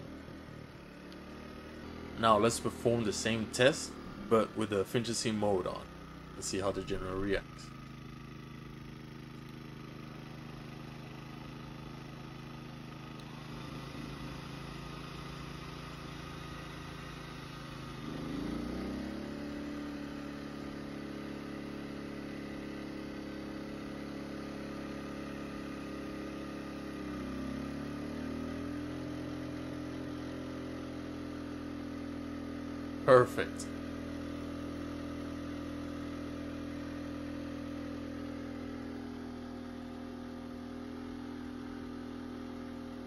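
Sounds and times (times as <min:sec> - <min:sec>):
generator engine running: 0:00.0 - 0:43.0.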